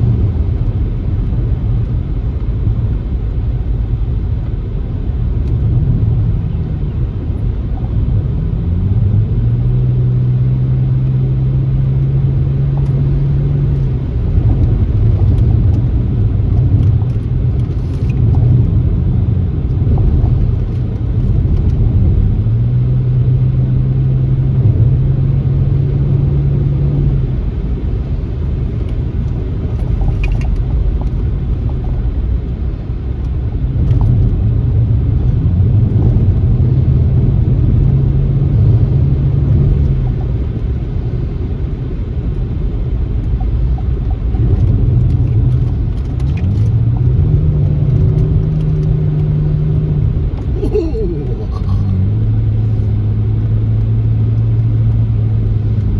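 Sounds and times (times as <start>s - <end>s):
car engine: 0.0s - 55.9s
tyres rumbling on rough road: 0.0s - 55.9s.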